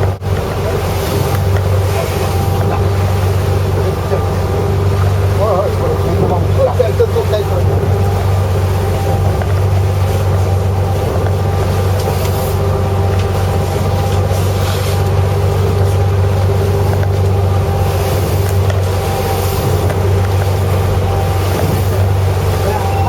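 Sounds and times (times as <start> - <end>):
boat engine drone: 0.0 - 23.0
water rushing: 0.0 - 23.0
wind: 0.0 - 23.0.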